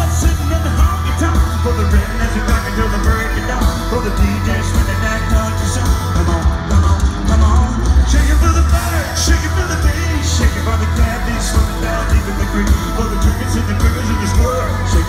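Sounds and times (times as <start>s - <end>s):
drums: 0.0s - 15.0s
heavy bass: 0.0s - 15.0s
live country-rock band: 0.0s - 15.0s
person singing: 0.0s - 15.0s.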